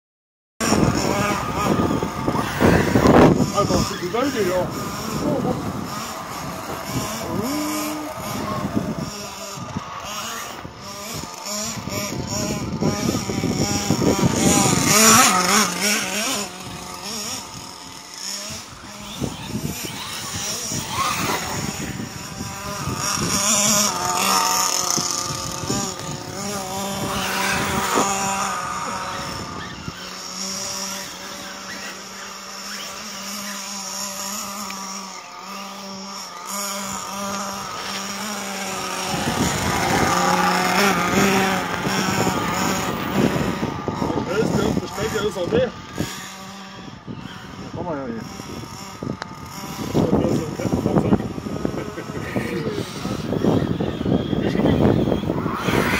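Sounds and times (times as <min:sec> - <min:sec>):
model car motor running: 0:00.6 - 0:55.9
tyres churning through snow: 0:00.6 - 0:55.9.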